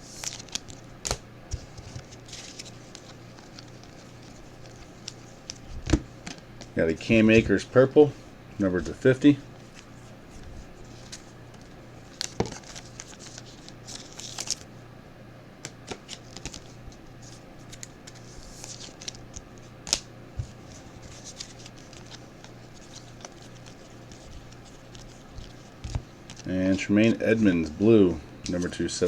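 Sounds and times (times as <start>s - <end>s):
trading cards being flipped: 0.1s - 6.7s, 8.8s - 14.6s, 15.6s - 27.8s.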